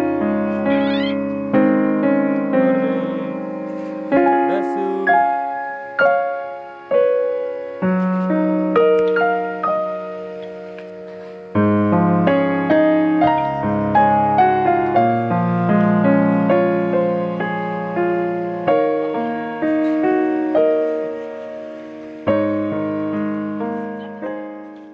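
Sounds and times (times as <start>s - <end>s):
gentle piano music: 0.0s - 24.9s.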